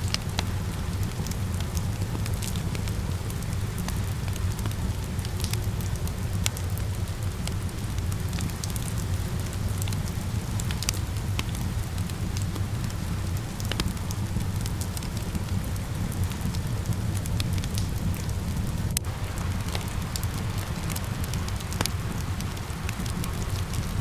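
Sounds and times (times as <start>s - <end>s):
rain hiss: 0.0s - 24.0s
wood fire crackling and popping: 0.0s - 24.0s.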